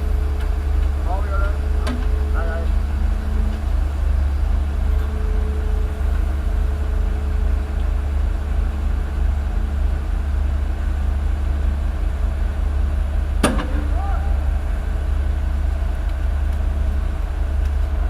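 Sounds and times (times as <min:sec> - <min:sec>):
heavy diesel engines rumbling: 0:00.0 - 0:18.0.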